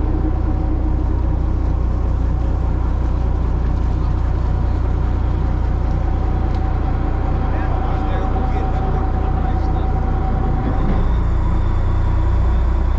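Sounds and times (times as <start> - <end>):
boat engine droning: 0.0 - 12.9.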